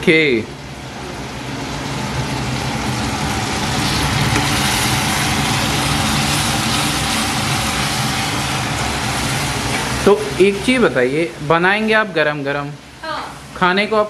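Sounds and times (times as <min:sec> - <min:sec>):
masala sizzling in a pan: 0:00.7 - 0:13.9.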